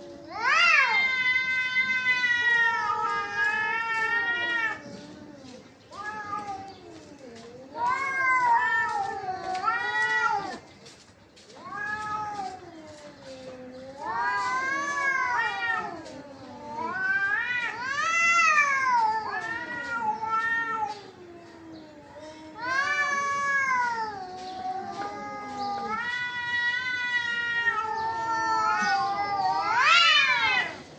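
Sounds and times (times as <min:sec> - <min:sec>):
cats yowling: 0:00.0 - 0:10.7, 0:11.5 - 0:30.9.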